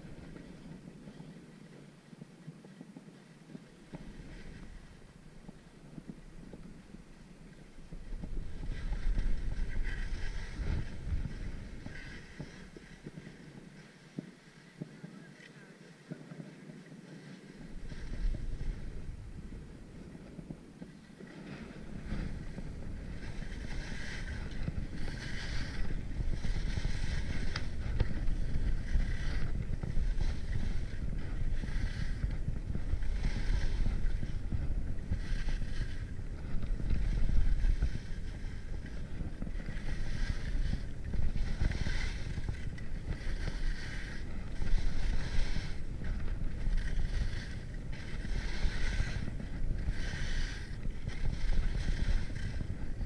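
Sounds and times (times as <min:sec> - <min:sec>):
wind buffeting microphone: 0:00.0 - 0:15.4, 0:16.0 - 0:53.0
skis scraping over snow: 0:00.0 - 0:53.0.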